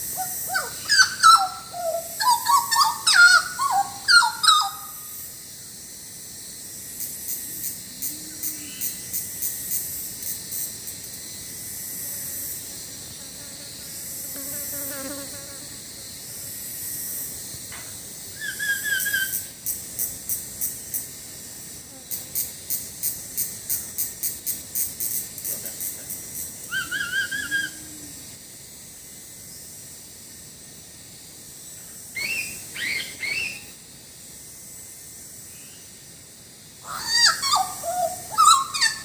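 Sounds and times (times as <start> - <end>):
insects calling in shrill pulses: 0.0 - 39.0.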